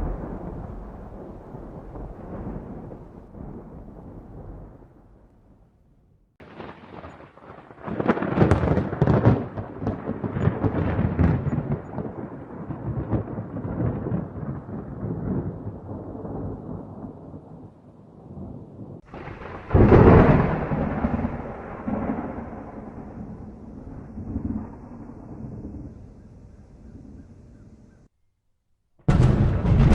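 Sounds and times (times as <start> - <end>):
thunder cracking and rumbling: 0.0 - 28.1, 29.1 - 29.9.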